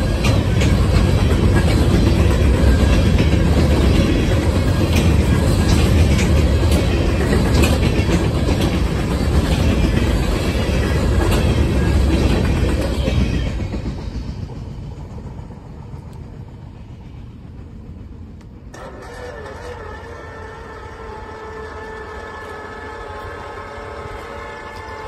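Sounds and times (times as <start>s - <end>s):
freight train rumble: 0.0s - 25.0s.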